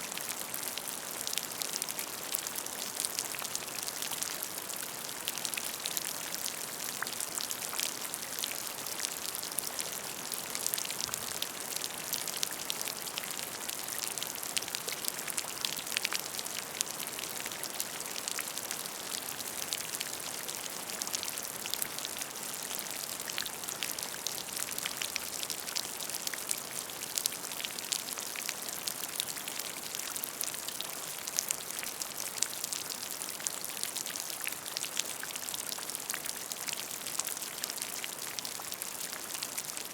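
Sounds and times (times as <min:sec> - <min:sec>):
rain falling on a puddle: 0:00.0 - 0:39.9.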